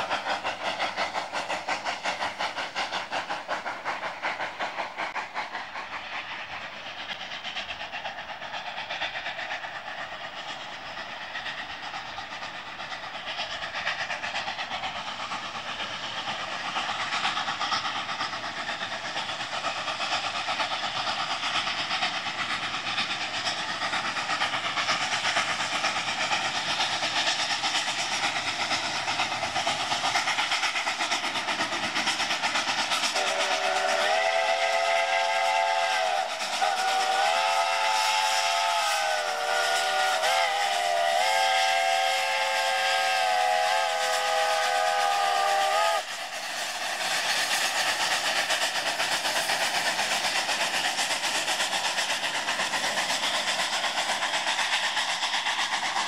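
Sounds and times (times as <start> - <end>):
steam locomotive exhaust rushing: 0.0 - 56.0.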